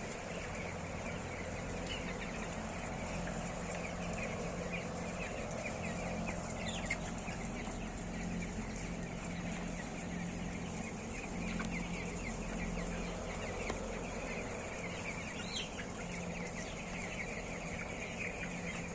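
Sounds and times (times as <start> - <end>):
chickens clucking and chirping: 0.0 - 18.9
low steady hum: 0.0 - 18.9.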